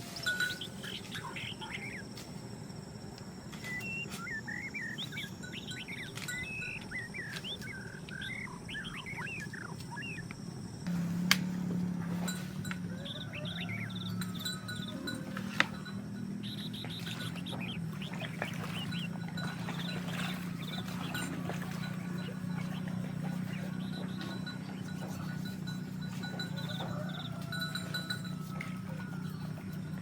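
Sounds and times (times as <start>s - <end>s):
birds chirping and twittering: 0.0s - 30.0s
low steady hum: 0.0s - 30.0s.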